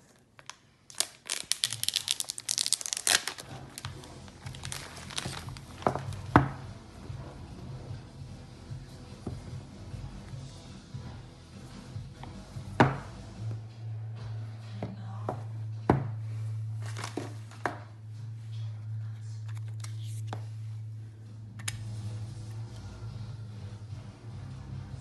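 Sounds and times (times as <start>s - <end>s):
steady low hum: 3.3s - 25.0s.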